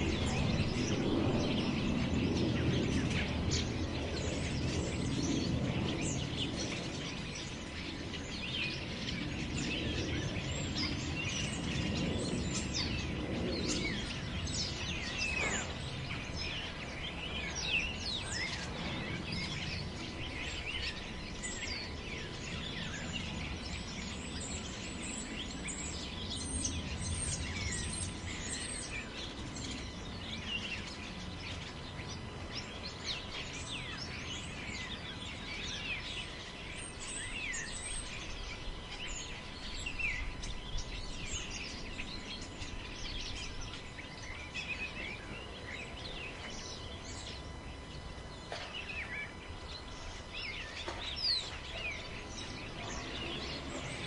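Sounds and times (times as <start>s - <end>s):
small birds chirping: 0.0s - 54.0s
wind in forest: 0.0s - 54.0s.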